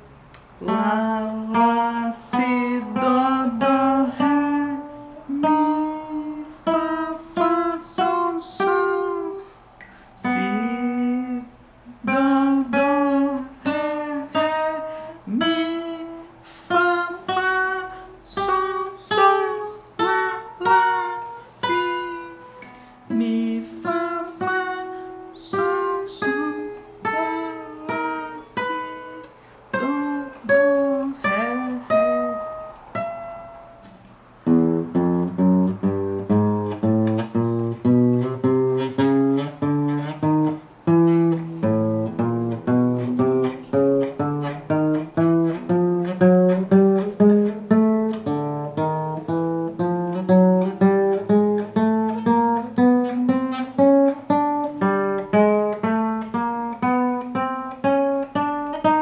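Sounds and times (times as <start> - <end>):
acoustic guitar plucked notes: 0.0 - 59.0.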